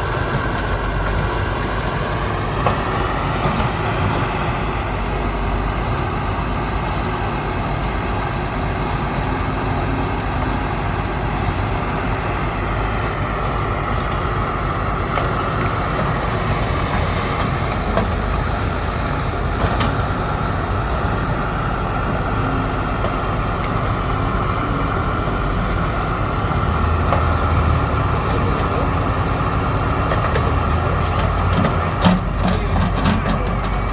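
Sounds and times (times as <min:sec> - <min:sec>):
backhoe diesel engine running: 0:00.0 - 0:33.9.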